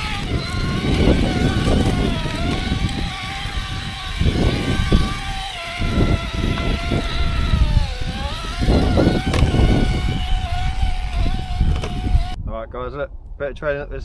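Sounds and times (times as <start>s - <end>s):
electric motor and gears whining: 0.0s - 12.4s
low rumbling: 0.0s - 14.0s.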